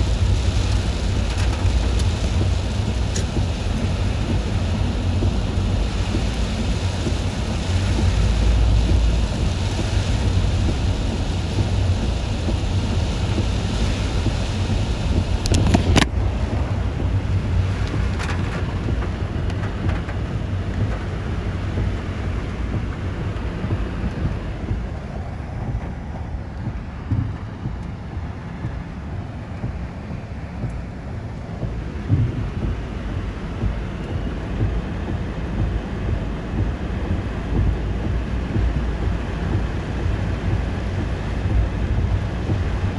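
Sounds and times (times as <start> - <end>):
heavy rain: 0.0 - 42.9
strong wind buffeting microphone: 0.0 - 42.9.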